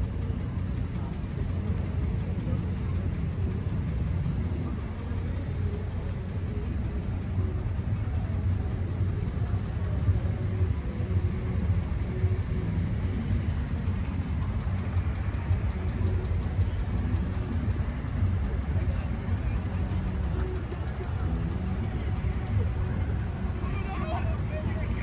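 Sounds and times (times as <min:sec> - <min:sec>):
car engine rumble: 0:00.0 - 0:25.0
road noise: 0:00.0 - 0:25.0.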